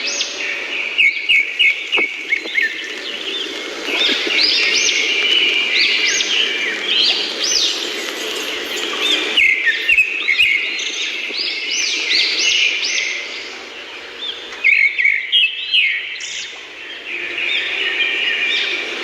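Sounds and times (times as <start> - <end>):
birds chirping and twittering: 0.0 - 19.0.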